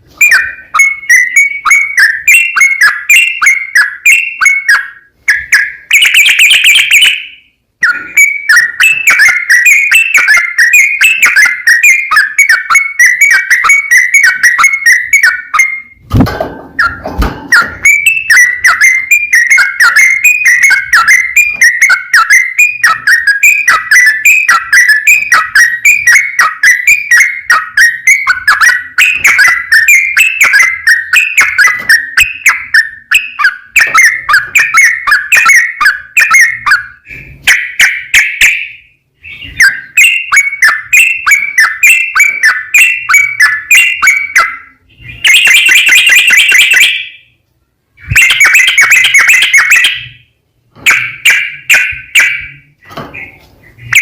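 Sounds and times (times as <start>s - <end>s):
bulbul singing whistled phrases: 0.2s - 16.0s, 16.8s - 47.3s, 48.0s - 54.0s.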